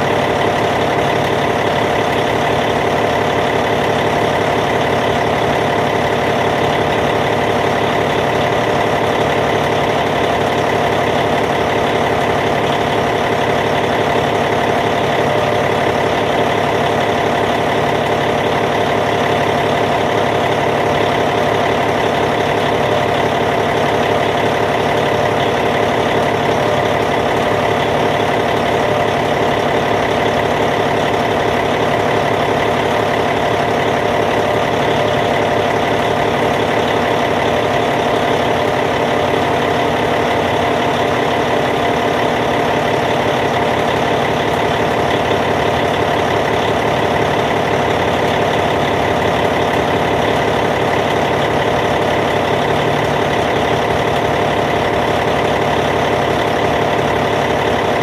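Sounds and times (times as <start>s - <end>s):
bulldozer diesel engine idling: 0.0s - 58.0s.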